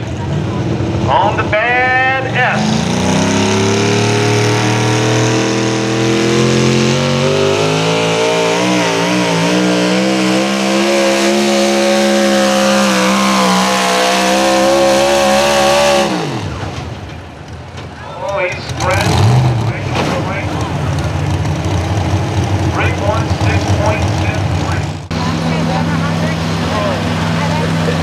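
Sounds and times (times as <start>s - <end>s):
truck engine at full throttle: 0.0s - 28.0s.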